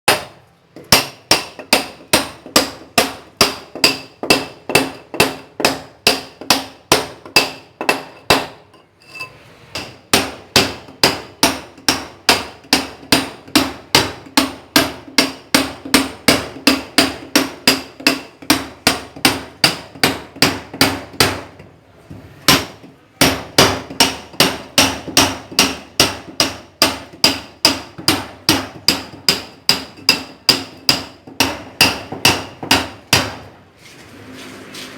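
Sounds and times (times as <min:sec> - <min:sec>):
hammer striking steel chisel: 0:00.1 - 0:21.5, 0:22.5 - 0:33.5.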